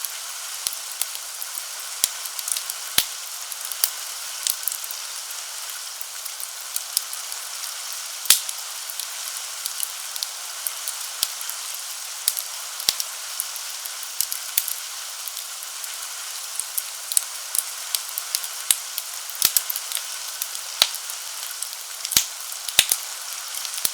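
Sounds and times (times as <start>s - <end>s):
steady rain: 0.0s - 23.9s
wood fire crackling: 0.0s - 23.9s.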